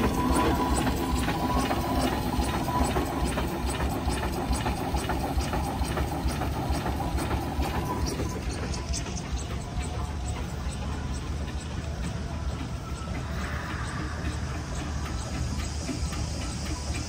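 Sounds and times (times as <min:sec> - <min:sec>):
steam traction engine chugging: 0:00.0 - 0:17.0.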